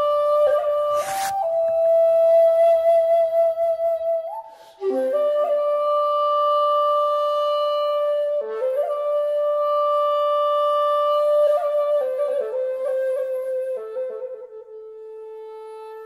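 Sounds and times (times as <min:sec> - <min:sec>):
solo flute melody: 0:00.0 - 0:16.0.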